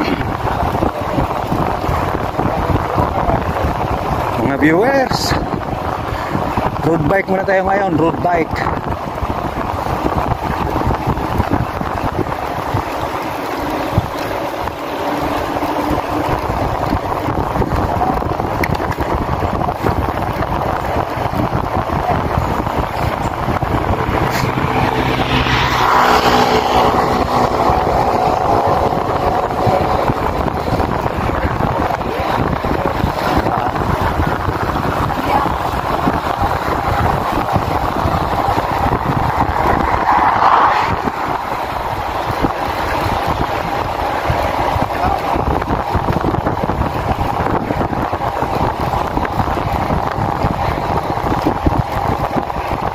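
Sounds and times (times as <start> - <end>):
wind rush over microphone: 0.0 - 52.9
pitched hum: 8.7 - 52.9.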